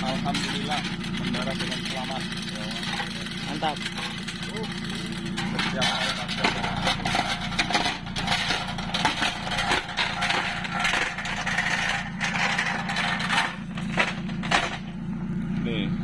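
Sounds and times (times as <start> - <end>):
metallic clinking and scraping: 0.0 - 15.0
engine running: 0.0 - 16.0.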